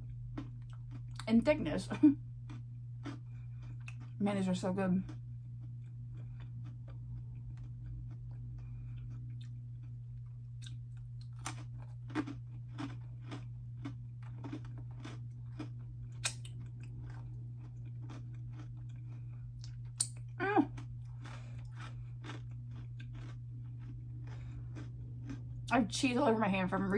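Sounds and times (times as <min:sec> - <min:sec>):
chewing crunchy snacks: 0:00.0 - 0:01.4, 0:02.4 - 0:25.7
steady low hum: 0:00.0 - 0:26.9.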